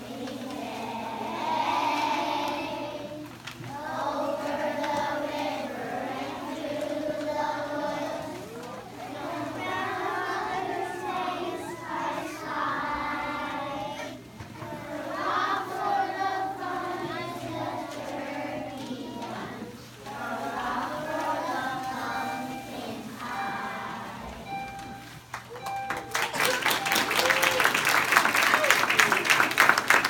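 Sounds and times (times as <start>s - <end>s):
children singing in unison: 0.0s - 24.7s.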